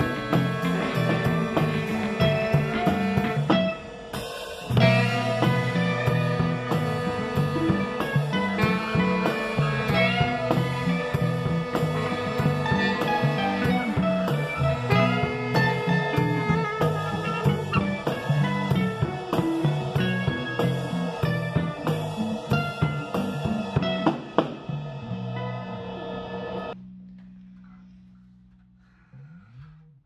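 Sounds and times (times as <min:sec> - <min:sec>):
drum kit beat: 0:00.0 - 0:26.8
electric guitar: 0:00.0 - 0:27.4
electric bass: 0:00.0 - 0:30.0.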